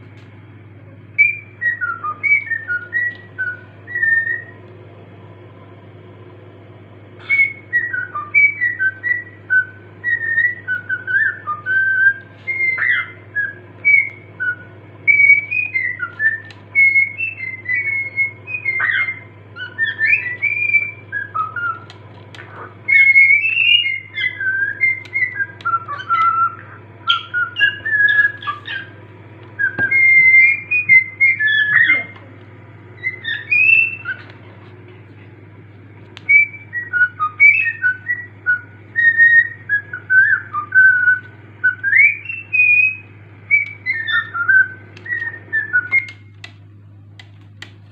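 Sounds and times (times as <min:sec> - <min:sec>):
steady low hum: 0:00.0 - 0:47.9
cockatiel whistling: 0:01.1 - 0:04.6, 0:07.2 - 0:32.2, 0:33.0 - 0:34.4, 0:36.2 - 0:46.6.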